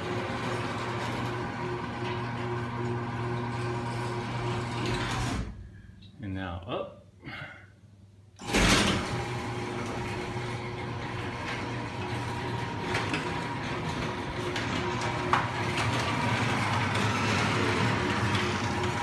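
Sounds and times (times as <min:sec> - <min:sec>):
garage door opener motor hum: 0:00.0 - 0:05.8, 0:08.4 - 0:19.0.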